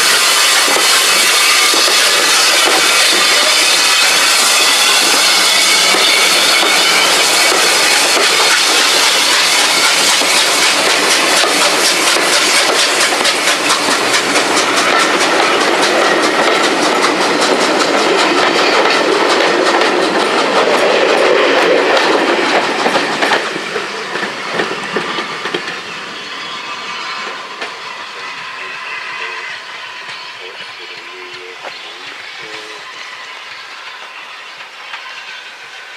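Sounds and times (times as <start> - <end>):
train wheels clicking over rail joints: 0.0 - 35.9.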